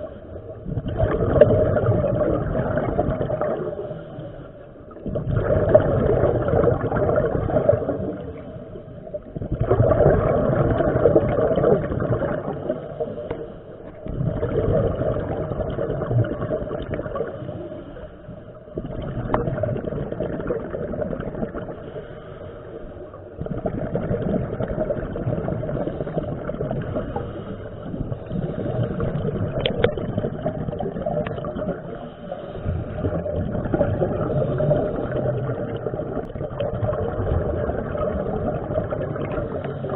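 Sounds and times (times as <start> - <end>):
underwater regulator bubbling: 0.0 - 22.0, 23.2 - 39.9.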